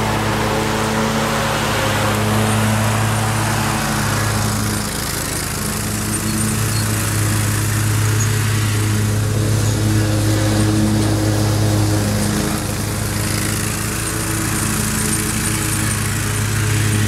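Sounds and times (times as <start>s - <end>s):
mower engine running: 0.0s - 17.0s.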